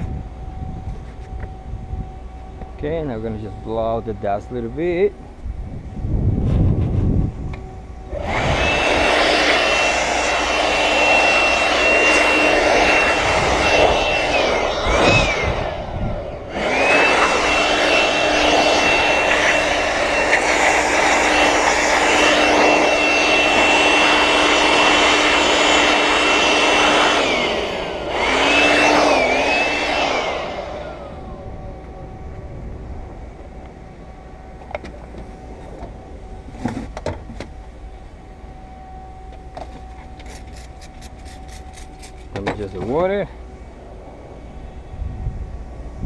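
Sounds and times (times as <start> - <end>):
electric air blower whining: 0.0 - 46.0.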